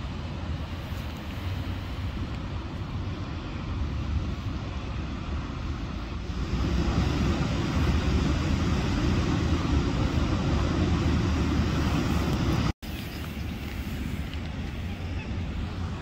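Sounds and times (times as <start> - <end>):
water rushing over a weir: 0.1 - 16.0.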